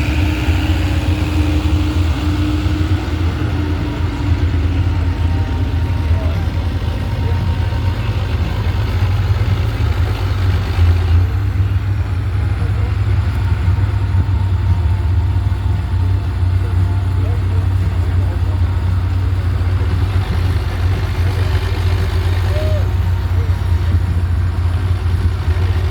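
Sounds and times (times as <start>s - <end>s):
truck engine low rumble: 0.0s - 25.9s.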